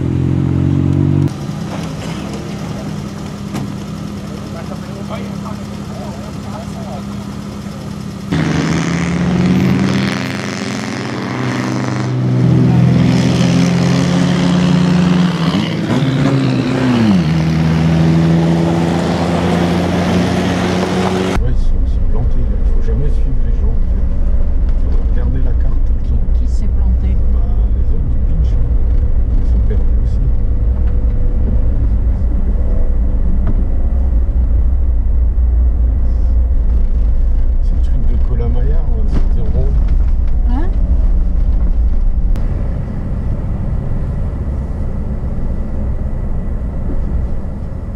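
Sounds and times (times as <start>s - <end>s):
engine revving: 0.0s - 47.9s
off-road vehicle engines running: 0.0s - 47.9s.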